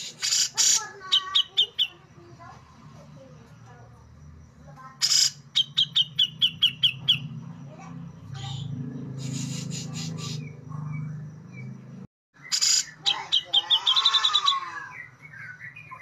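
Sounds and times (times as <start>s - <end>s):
bird singing: 0.0s - 3.5s, 4.8s - 16.0s.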